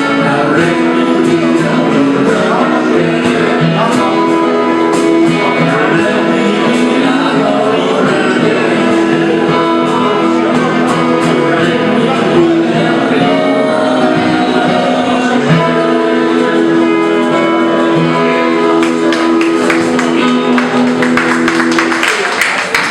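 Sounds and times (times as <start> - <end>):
guitars: 0.0 - 22.9
person singing: 0.0 - 22.9.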